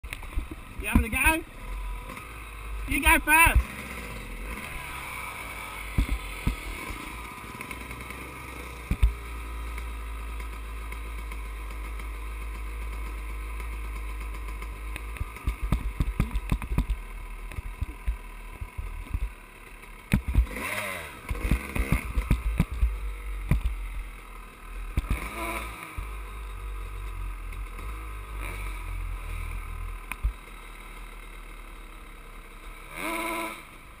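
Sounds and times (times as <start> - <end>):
dirt bike engines revving: 0.1 - 34.0.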